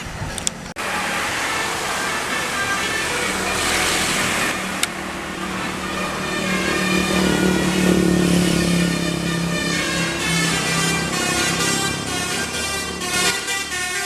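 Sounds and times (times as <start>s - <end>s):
traffic passing: 0.0s - 14.0s
vehicle engine running: 0.0s - 14.0s.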